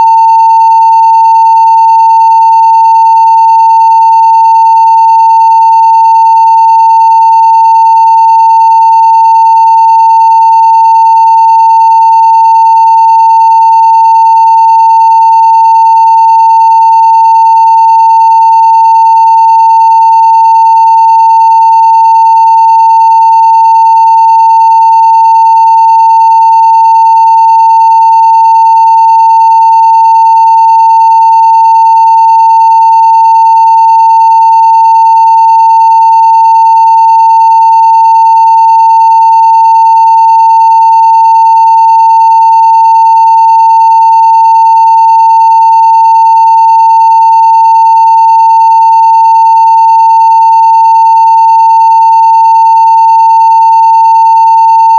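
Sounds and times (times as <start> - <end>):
sine wave test tone: 0.0 - 54.9.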